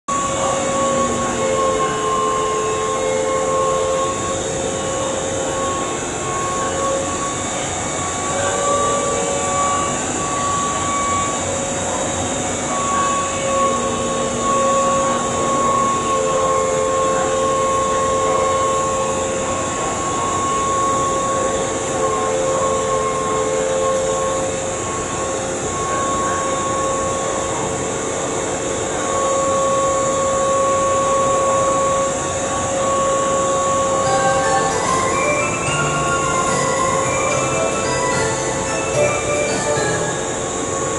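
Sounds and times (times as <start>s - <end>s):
train electrical equipment humming: 0.0s - 40.9s.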